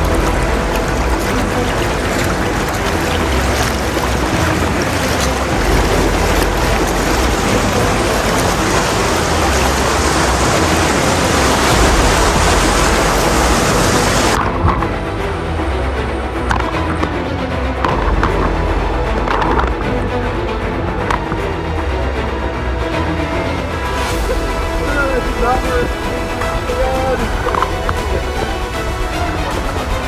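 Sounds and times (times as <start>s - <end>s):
river rapids rushing: 0.0s - 30.0s
wind buffeting microphone: 0.0s - 30.0s.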